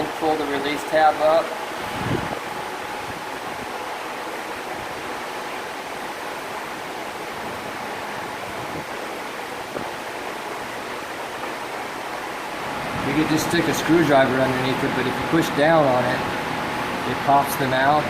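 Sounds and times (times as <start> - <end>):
workshop background hiss: 0.0 - 18.0.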